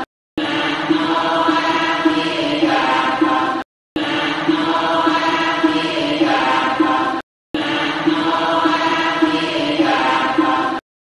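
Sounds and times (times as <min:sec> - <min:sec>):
voices chanting: 0:00.0 - 0:10.8.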